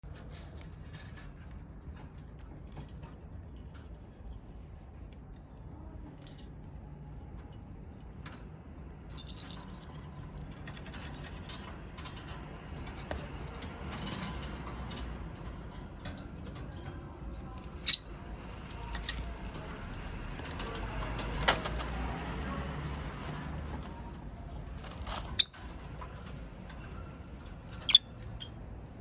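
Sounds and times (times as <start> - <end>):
small clicks and clinks: 0.1 - 29.0.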